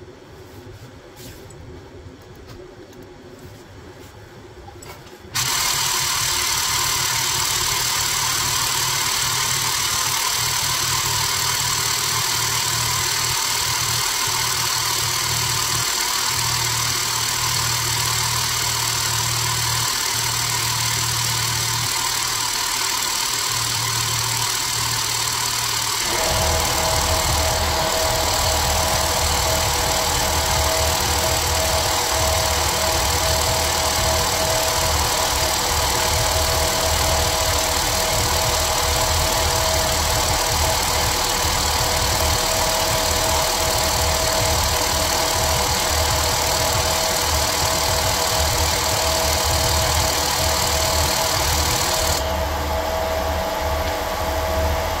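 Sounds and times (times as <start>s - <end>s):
hydraulic pump motor humming: 5.4s - 55.0s.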